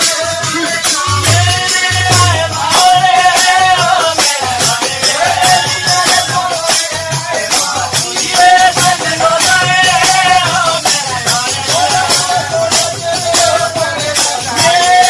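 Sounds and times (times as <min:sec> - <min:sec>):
barrel drum: 0:00.0 - 0:15.0
group singing: 0:00.0 - 0:15.0.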